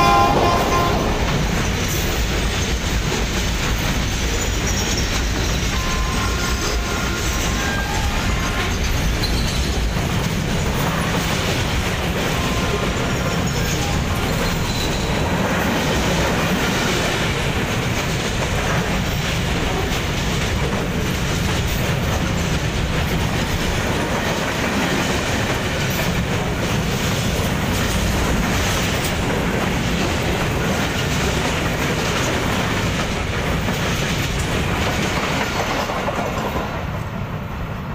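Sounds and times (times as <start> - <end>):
wheels clattering over rail joints: 0.0 - 37.0
freight train rumbling past: 0.0 - 37.9.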